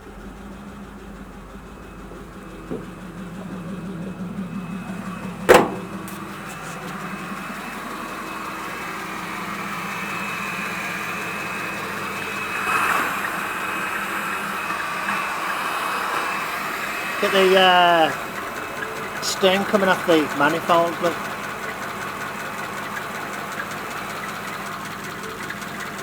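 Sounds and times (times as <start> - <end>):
pickup truck engine running: 0.0 - 26.0.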